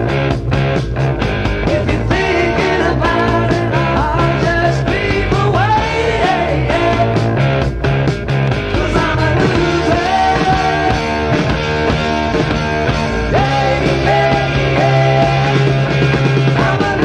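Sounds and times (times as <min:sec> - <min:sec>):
bent guitar lead line: 0:00.0 - 0:17.0
blues rock band playing: 0:00.0 - 0:17.0.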